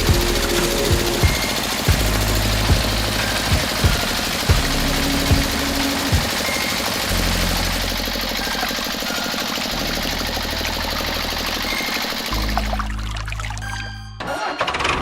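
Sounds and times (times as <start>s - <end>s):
small engine running: 0.0s - 12.8s.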